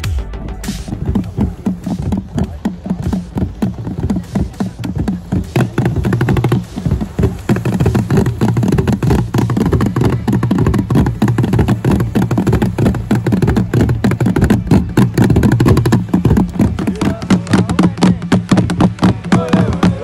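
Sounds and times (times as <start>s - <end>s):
hand drum playing: 0.9s - 20.0s.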